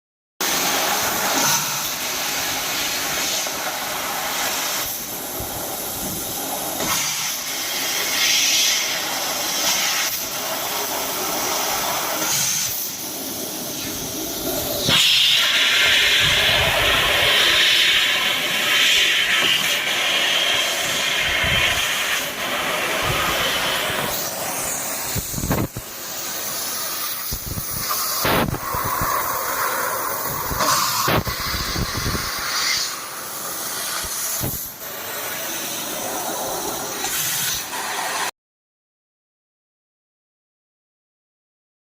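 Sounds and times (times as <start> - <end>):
sheet-metal machinery hissing: 0.4 - 38.3.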